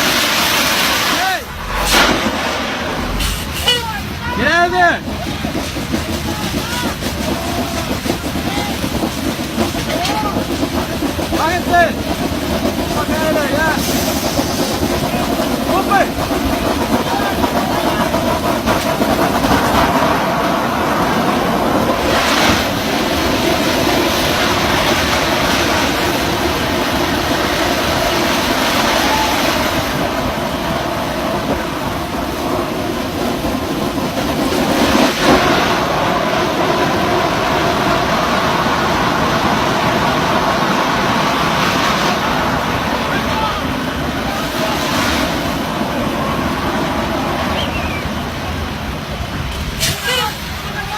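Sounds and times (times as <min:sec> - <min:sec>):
drilling rig machinery running: 0:00.0 - 0:50.9.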